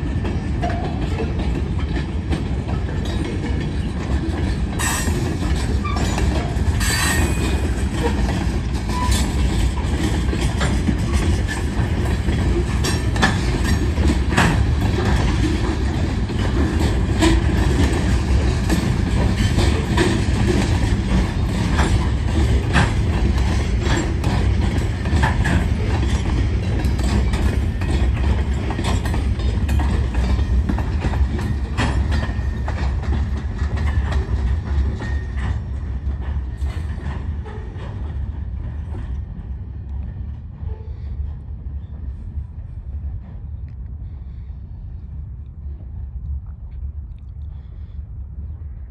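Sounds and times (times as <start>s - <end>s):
wheels clicking over rail joints: 0.0s - 41.0s
freight train rumbling past: 0.0s - 48.9s.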